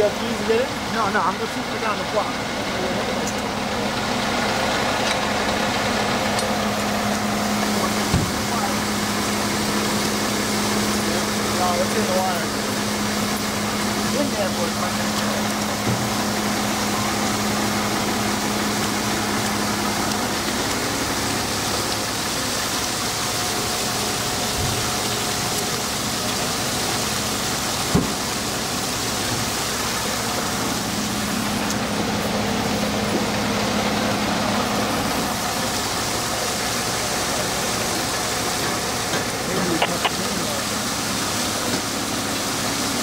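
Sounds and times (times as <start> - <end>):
constant hiss: 0.0 - 43.0
engine idling: 0.0 - 43.0.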